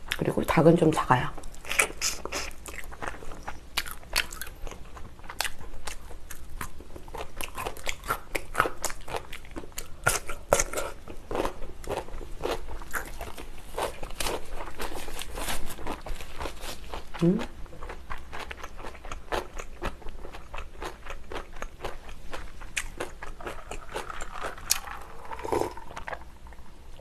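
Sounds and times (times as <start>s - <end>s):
crunchy food being chewed: 1.4s - 26.6s.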